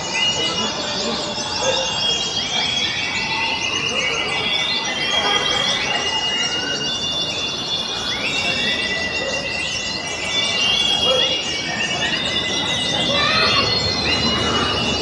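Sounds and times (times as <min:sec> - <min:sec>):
birds twittering trills: 0:00.0 - 0:15.0
long whistled bird notes: 0:00.0 - 0:15.0.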